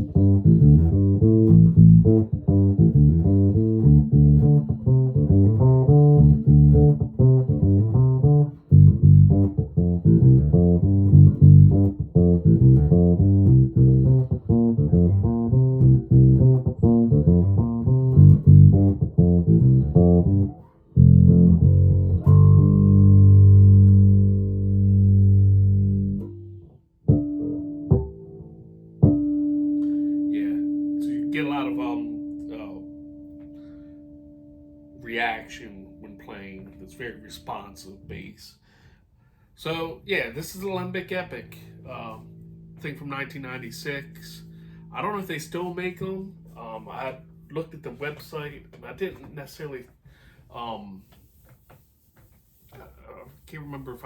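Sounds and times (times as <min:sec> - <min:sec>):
electric bass plucked notes: 0:00.0 - 0:38.4, 0:39.7 - 0:49.4.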